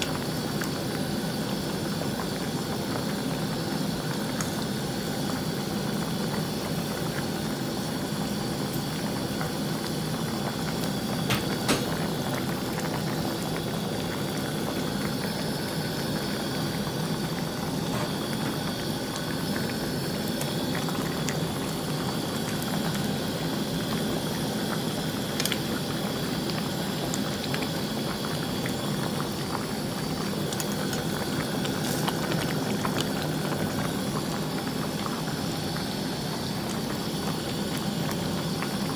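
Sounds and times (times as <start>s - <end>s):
broth boiling in pot: 0.0s - 38.9s.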